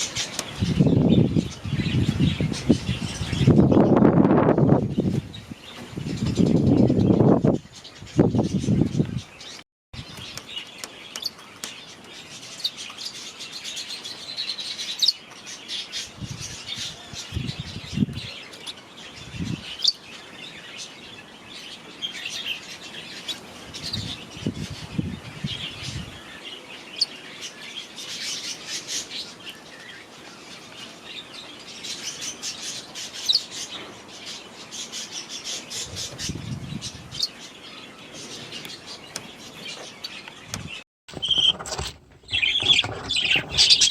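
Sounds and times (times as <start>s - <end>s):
birds chirping and chattering: 0.0s - 43.9s.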